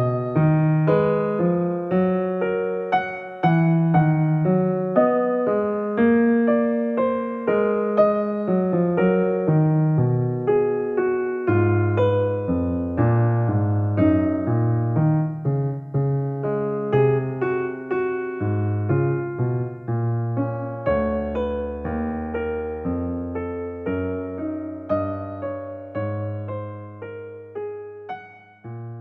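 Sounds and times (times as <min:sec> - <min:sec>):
soft keyboard music: 0:00.0 - 0:29.0.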